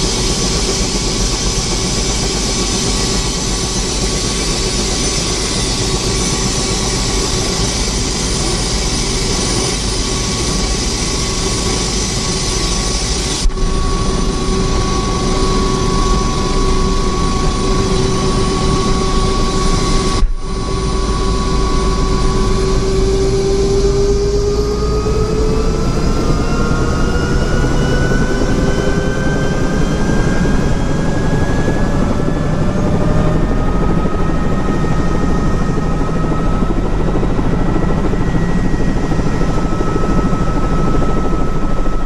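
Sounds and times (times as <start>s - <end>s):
helicopter engine and rotor noise: 0.0s - 42.0s.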